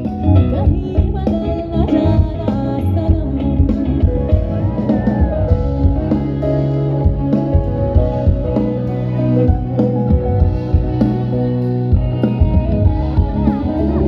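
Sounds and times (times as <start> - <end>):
guitar-led live band music: 0.0 - 14.0.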